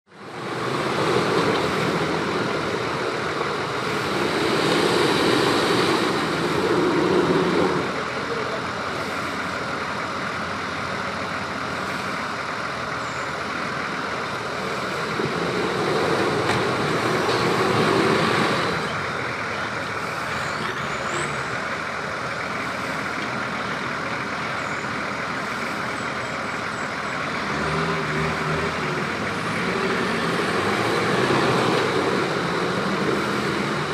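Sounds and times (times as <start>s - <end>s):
off-road vehicle engines running: 0.0s - 33.9s.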